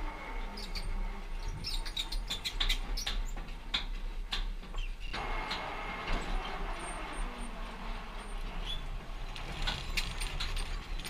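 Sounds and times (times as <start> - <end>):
zipline trolley rolling on cable: 0.0 - 11.0.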